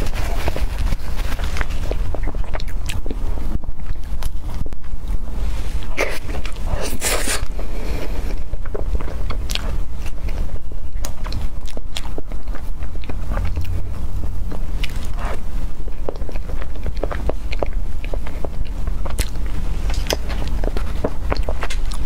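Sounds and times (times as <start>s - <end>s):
wet chewing and mouth clicks: 0.0s - 5.2s, 5.8s - 13.9s, 14.5s - 22.0s
steady low rumble: 0.0s - 22.0s.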